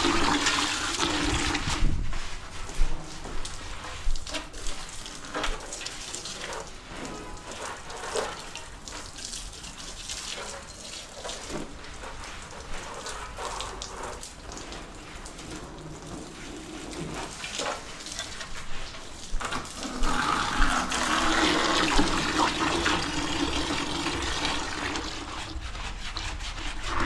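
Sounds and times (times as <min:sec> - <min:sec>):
water dripping and splashing: 0:00.0 - 0:27.0.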